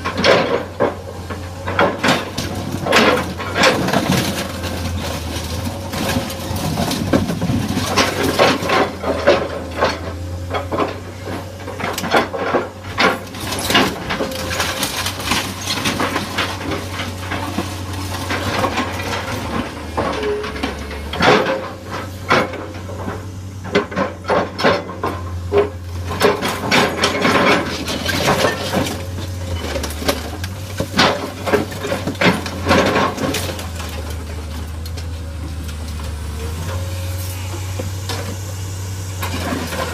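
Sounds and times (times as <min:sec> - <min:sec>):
excavator engine running: 0:00.0 - 0:39.9
metal crunching and banging: 0:00.0 - 0:39.9.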